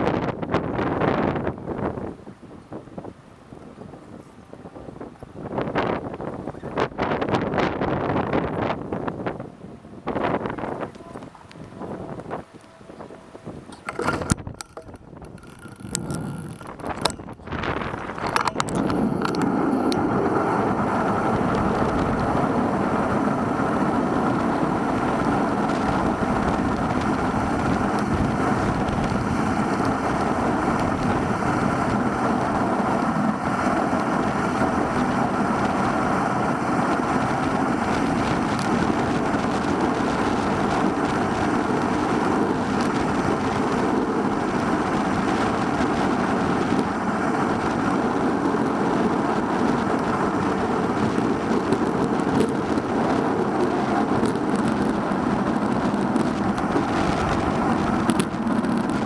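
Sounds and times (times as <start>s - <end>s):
bicycle tyre noise: 0.0s - 59.0s
wind rushing: 11.6s - 59.0s.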